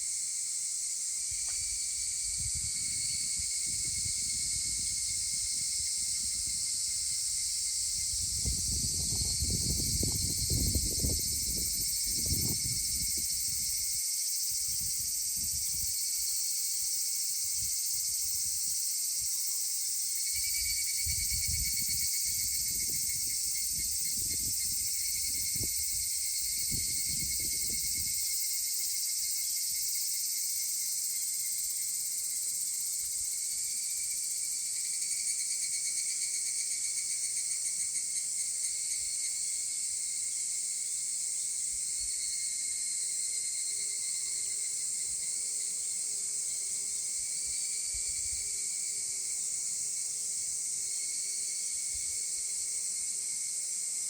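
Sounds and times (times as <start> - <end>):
cicadas calling: 0.0 - 53.7
faint pulsing insect call: 0.0 - 54.0.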